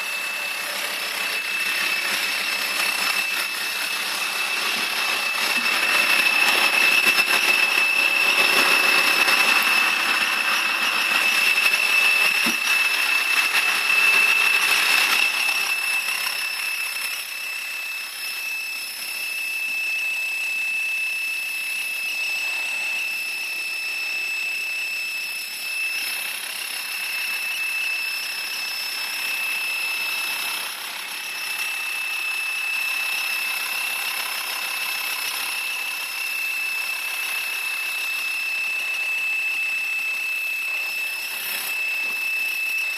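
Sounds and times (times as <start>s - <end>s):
high-pitched whistle: 0.0s - 30.2s, 31.2s - 34.0s, 35.3s - 42.9s.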